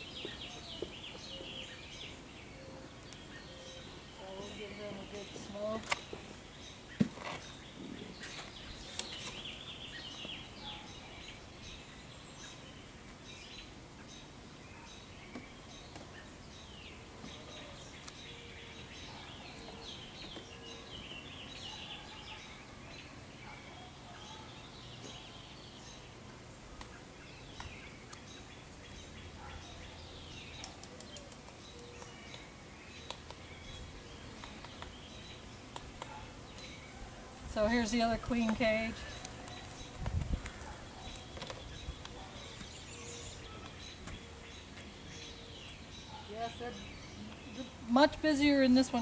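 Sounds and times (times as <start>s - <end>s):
birds chirping and singing: 0.0s - 49.0s.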